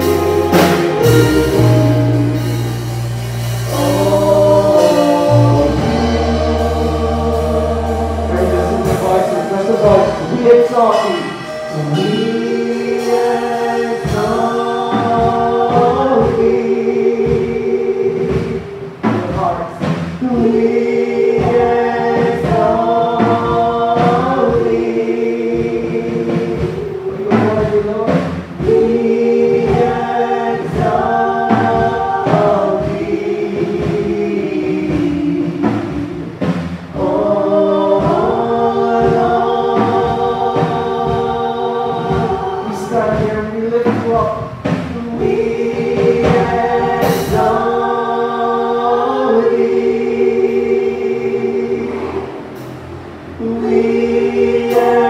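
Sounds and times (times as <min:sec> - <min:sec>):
gospel vocal group singing: 0:00.0 - 0:55.0.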